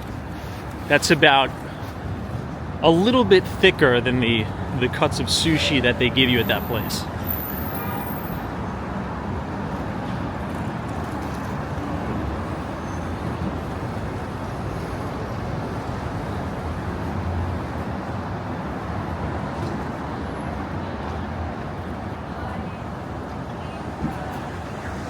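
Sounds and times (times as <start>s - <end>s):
city street traffic rumble: 0.0s - 25.0s.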